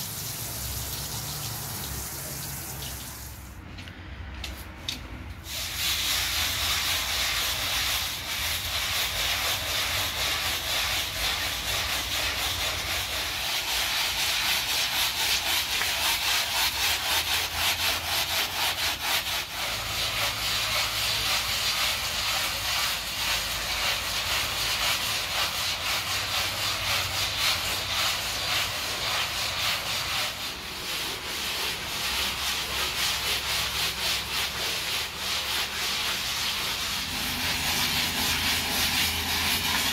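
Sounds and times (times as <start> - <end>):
scrub brush scrubbing wet rug: 0.0 - 3.8, 4.4 - 39.9.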